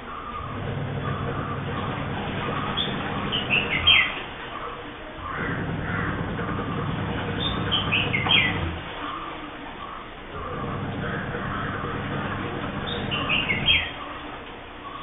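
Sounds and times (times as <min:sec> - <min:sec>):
bird chirping: 0:00.0 - 0:15.0
low background noise: 0:00.0 - 0:15.0.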